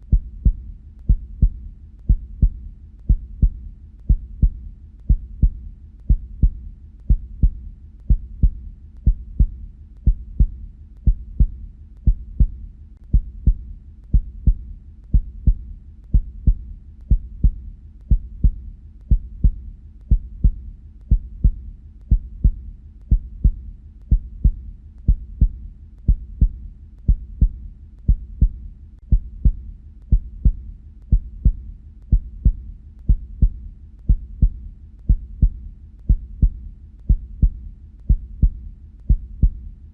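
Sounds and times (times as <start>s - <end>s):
heartbeat thumps: 0.0s - 39.8s.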